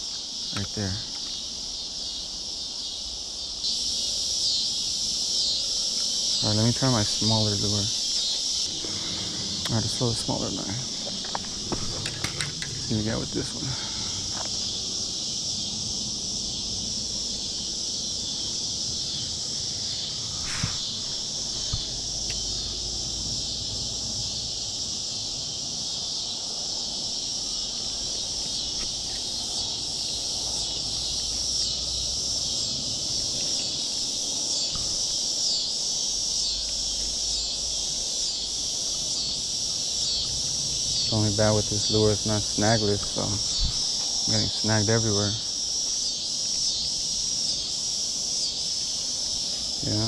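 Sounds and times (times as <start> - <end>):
insects chorus: 0.0 - 50.0.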